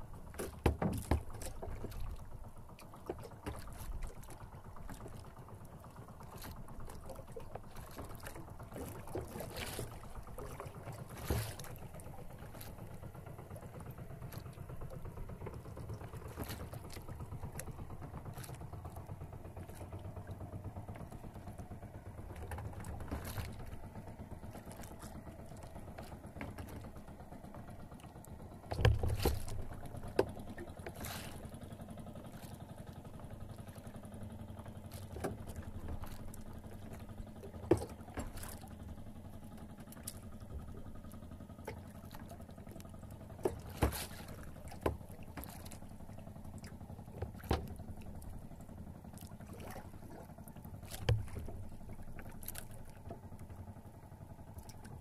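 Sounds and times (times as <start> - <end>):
steady low hum: 0.0 - 55.0
water washing along hull: 0.0 - 55.0.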